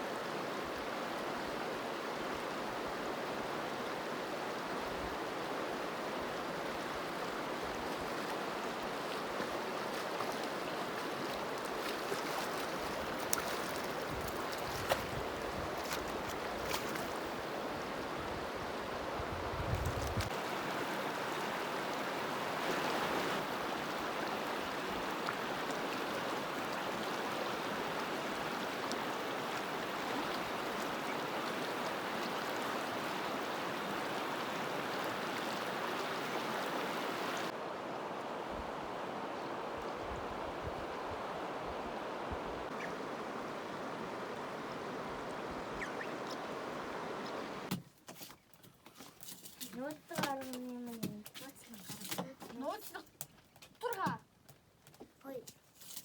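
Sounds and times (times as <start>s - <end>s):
stream flowing: 0.0s - 47.7s.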